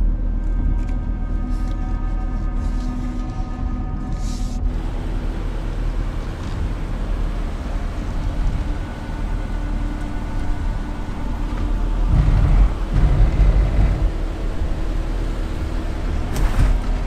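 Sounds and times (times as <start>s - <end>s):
truck engine low rumble: 0.0s - 17.0s.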